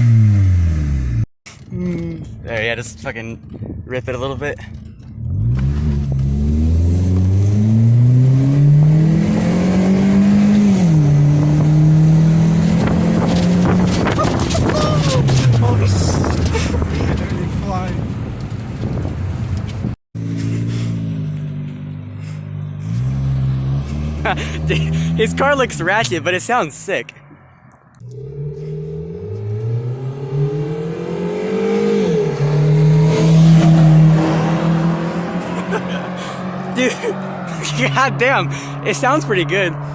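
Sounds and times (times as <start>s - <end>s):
car engine revving: 0.0s - 1.3s, 5.1s - 26.8s, 28.0s - 39.9s.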